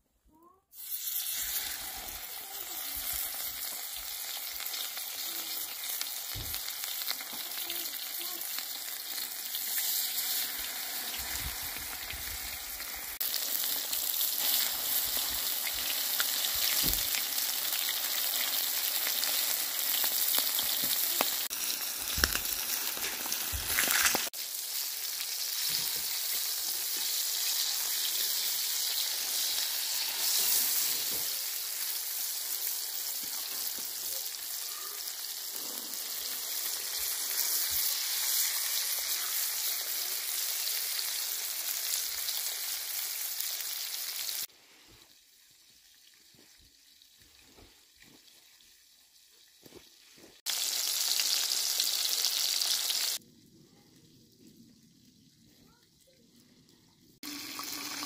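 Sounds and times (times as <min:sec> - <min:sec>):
fish sizzling in hot fat: 0:00.7 - 0:53.2, 0:57.1 - 0:58.0.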